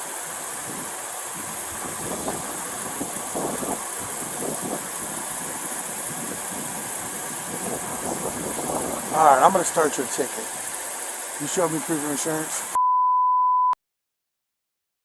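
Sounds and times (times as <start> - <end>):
car engine idling: 0.0 - 12.8
constant hiss: 0.0 - 12.8.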